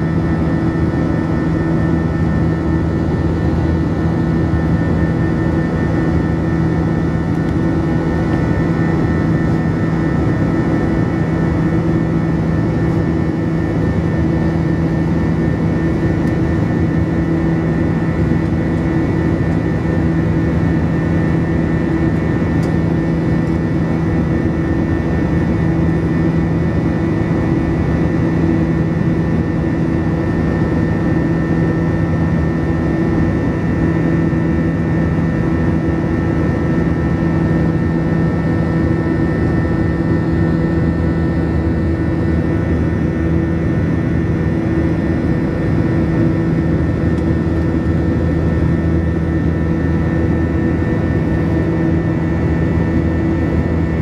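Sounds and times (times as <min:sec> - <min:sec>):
jet engine and airflow drone: 0:00.0 - 0:54.0.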